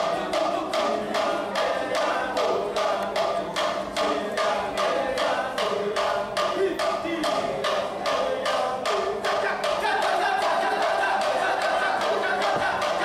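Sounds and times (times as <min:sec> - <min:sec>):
held sung tone: 0:00.0 - 0:13.0
men chanting rhythmically: 0:00.0 - 0:13.0.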